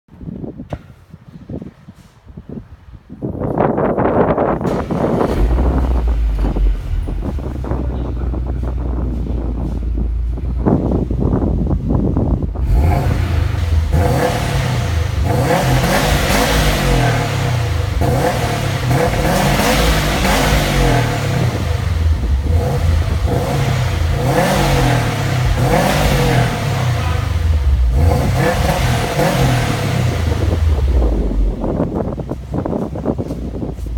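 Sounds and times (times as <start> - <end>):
car engine revving: 4.4 - 33.9.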